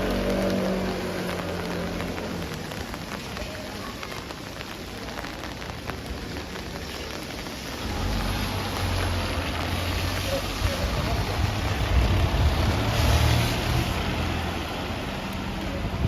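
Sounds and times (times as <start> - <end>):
rain falling on street: 0.0 - 16.0
vehicle engine rumble: 0.0 - 16.0.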